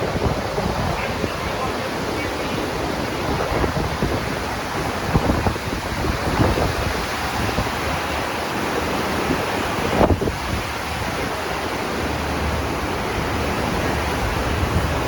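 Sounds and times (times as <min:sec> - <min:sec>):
sea water rushing: 0:00.0 - 0:15.0
wind buffeting microphone: 0:00.0 - 0:15.0.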